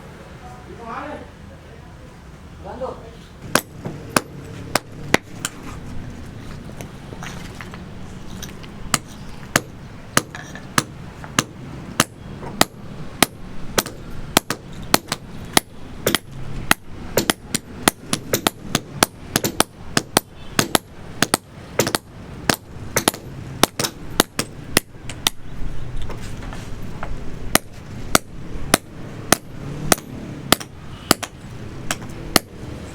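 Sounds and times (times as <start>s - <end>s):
hammer striking: 3.4s - 26.2s, 27.0s - 32.8s.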